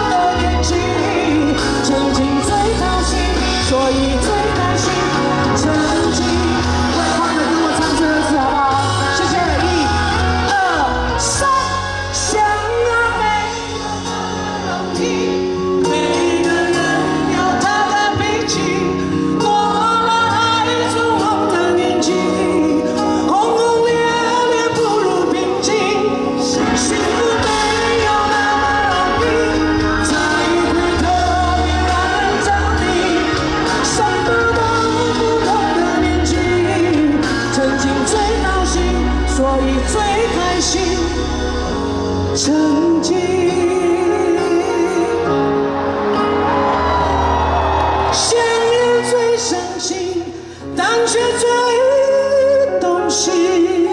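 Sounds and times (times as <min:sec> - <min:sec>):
woman singing pop song: 0:00.0 - 0:46.6, 0:48.1 - 0:53.9
live band playing: 0:00.0 - 0:53.9.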